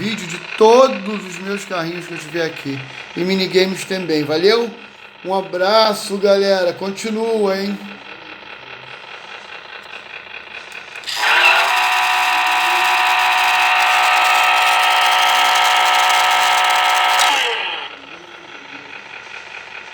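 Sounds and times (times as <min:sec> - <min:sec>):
toy car electronic engine sound: 0:00.0 - 0:19.9.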